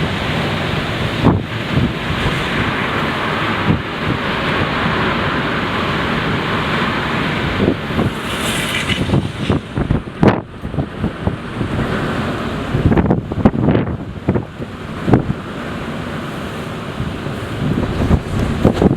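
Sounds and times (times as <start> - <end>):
wind and rain rushing: 0.0 - 18.9
wind buffeting microphone: 0.0 - 18.9.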